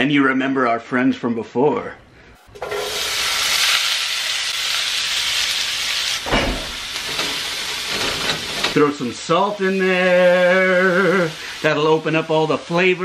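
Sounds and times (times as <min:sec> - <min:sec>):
vegetables sizzling in oil: 0:02.6 - 0:13.0.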